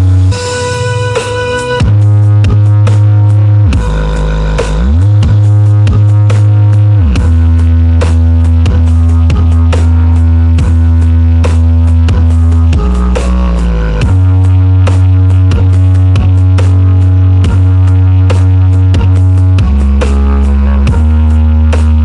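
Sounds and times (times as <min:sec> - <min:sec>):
heavy sustained bass line: 0:00.0 - 0:22.0
steady drum beat: 0:00.0 - 0:22.0.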